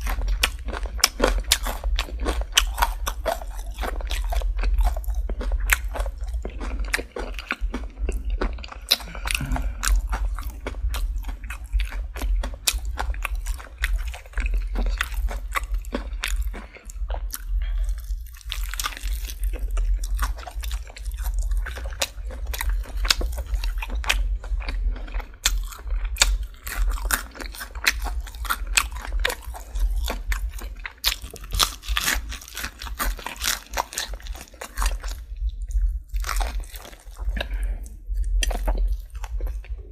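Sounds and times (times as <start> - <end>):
crunchy chewing of fried chicken: 0.0 - 39.9
steady low hum: 0.0 - 39.9.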